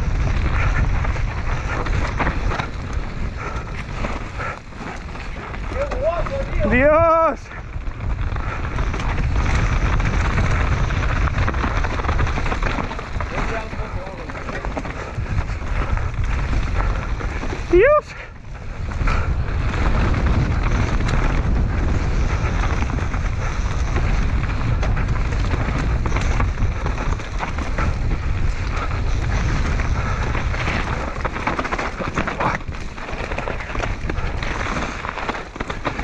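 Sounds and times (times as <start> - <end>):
bike rattling over bumps: 0.0 - 36.0
bike tyres rolling over dirt: 0.0 - 36.0
wind rushing over microphone: 0.0 - 36.0.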